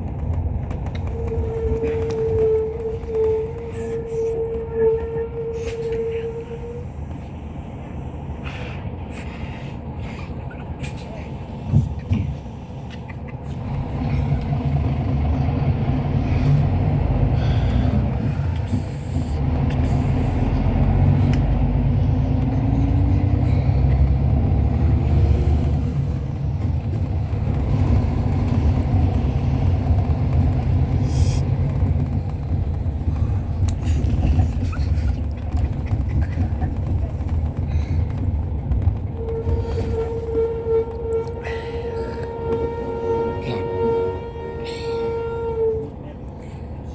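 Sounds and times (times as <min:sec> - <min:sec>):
coach engine and road rumble: 0:00.0 - 0:46.9.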